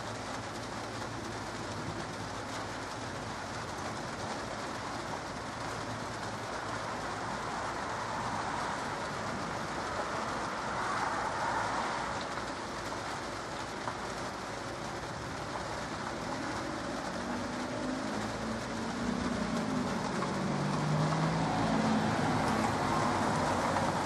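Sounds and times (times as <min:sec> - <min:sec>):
light rain falling: 0:00.0 - 0:24.0.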